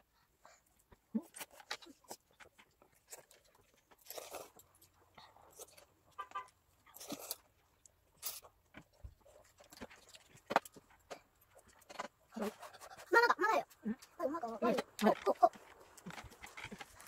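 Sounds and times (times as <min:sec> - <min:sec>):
noodles slurped and chewed: 0:00.5 - 0:17.0.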